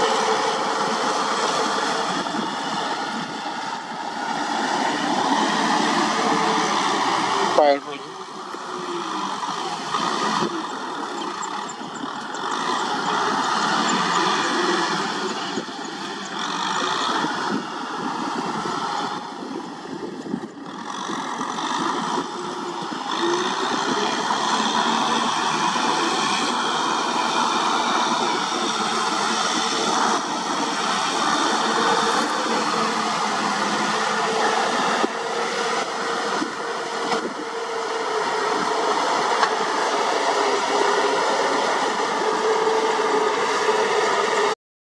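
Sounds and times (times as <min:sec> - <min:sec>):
tractor diesel engine under load: 0:00.0 - 0:44.6.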